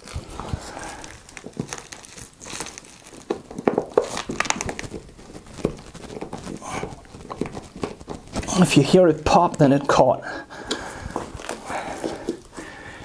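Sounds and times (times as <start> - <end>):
crinkling and rustling: 0.0 - 13.0.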